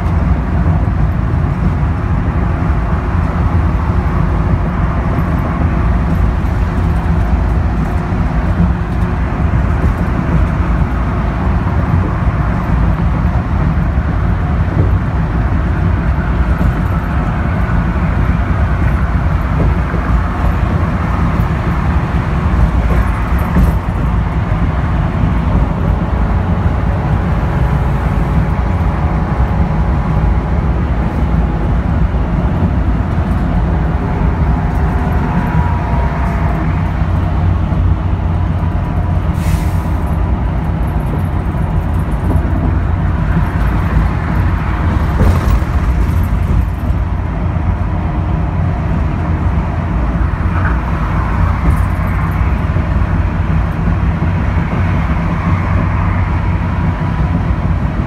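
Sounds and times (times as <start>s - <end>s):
bus engine running: 0.0s - 58.0s
road and tyre noise: 0.0s - 58.0s.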